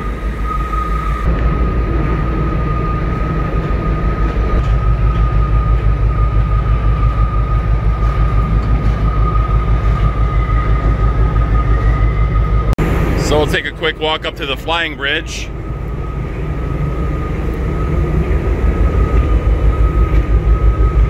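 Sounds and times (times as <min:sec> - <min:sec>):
heavy machinery rumble: 0:00.0 - 0:21.0
high-pitched whine: 0:00.0 - 0:21.0.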